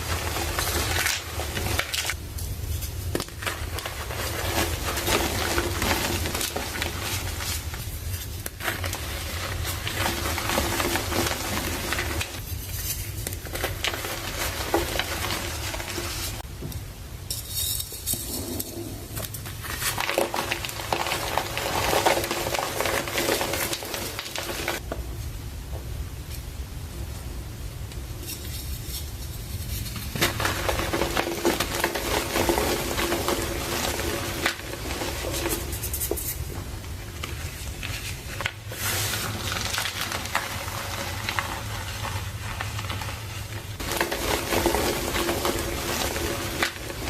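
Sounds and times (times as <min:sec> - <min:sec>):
chalk mixture stirred and scraped: 0:00.0 - 0:16.5, 0:17.8 - 0:24.8, 0:28.2 - 0:47.0.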